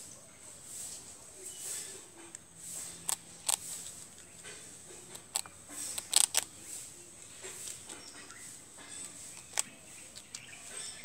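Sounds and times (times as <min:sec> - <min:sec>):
squirrel crunching toast: 0:01.9 - 0:11.0.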